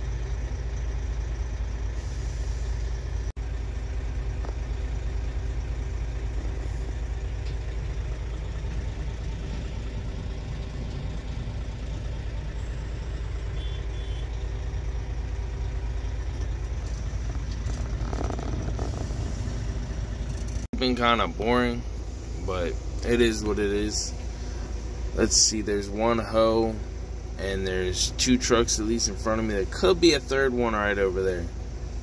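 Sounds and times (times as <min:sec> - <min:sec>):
diesel engine drone from cab: 0:00.0 - 0:32.0.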